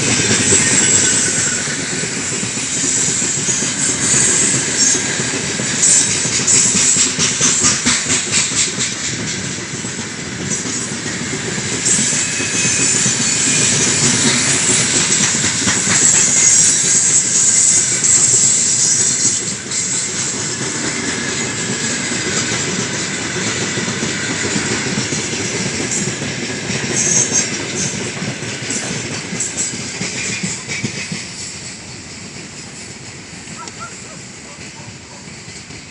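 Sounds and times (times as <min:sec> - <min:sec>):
freight train rolling past: 0:00.0 - 0:35.9
wheels clicking over rail joints: 0:00.0 - 0:35.9.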